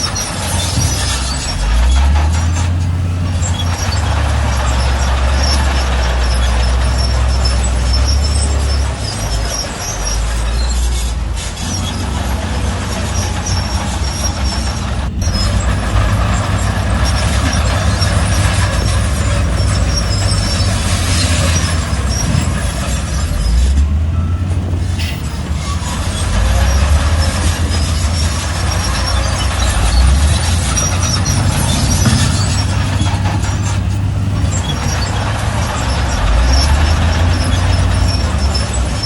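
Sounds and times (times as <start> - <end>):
bulldozer diesel engine droning: 0.0 - 39.0
rough clattering grinding: 0.0 - 39.0.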